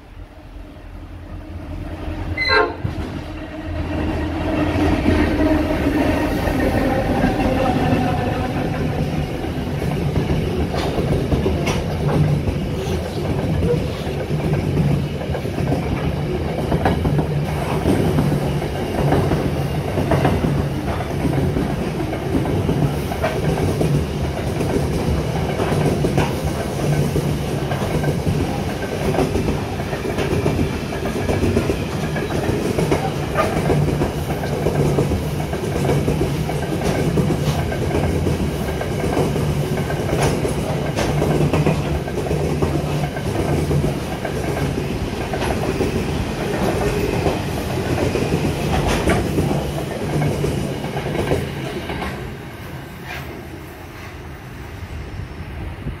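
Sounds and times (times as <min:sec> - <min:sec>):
train wheels clattering over rail joints: 0:04.6 - 0:52.4.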